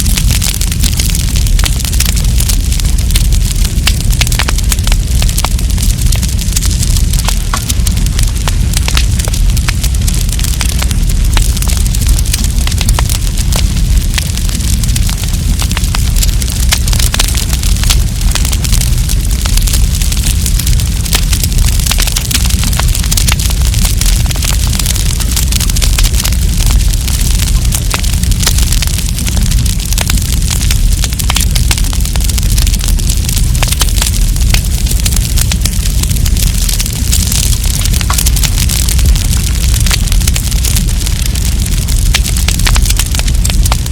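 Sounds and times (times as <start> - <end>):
campfire crackling and popping: 0.0 - 43.9
low rumble of fire: 0.0 - 43.9.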